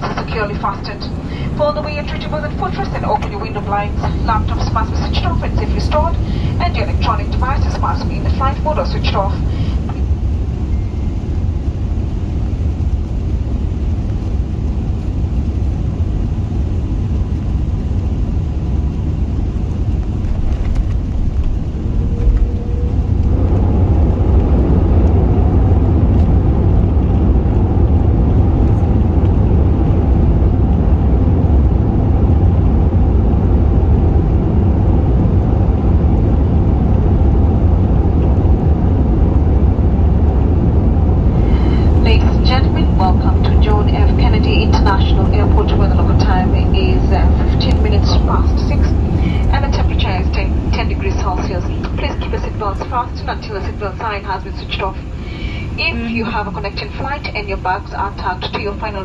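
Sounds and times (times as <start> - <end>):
aircraft cabin rumble: 0.0 - 59.0.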